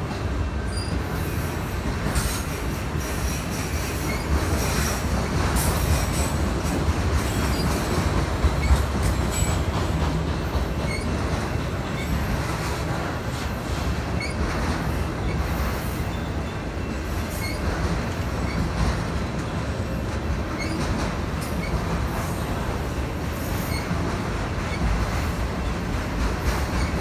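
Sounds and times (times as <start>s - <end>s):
freight train wheels rolling on rails: 0.0s - 27.0s.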